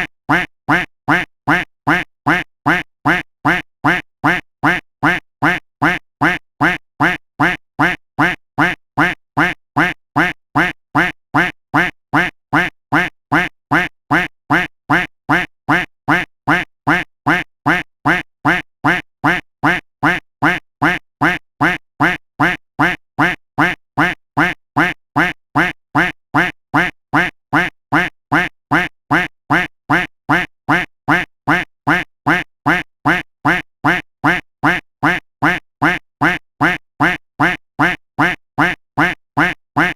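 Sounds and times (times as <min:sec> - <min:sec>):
duck quacking: 0:00.0 - 0:39.9.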